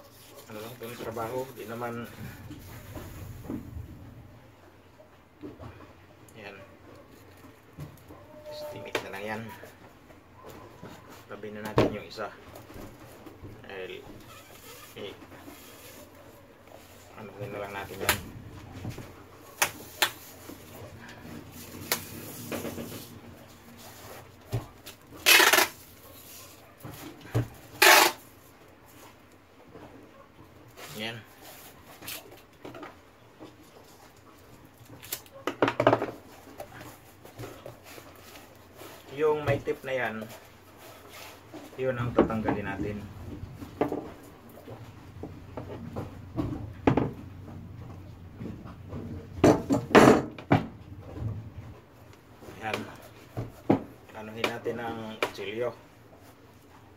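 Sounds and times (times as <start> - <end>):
light knocks and rubbing on plastic: 8.9 - 56.8.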